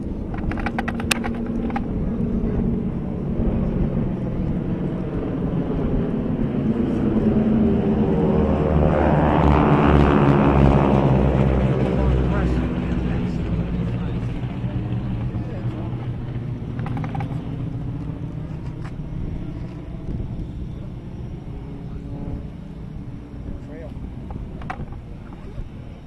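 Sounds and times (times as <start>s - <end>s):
airplane engine drone: 0.0s - 26.0s.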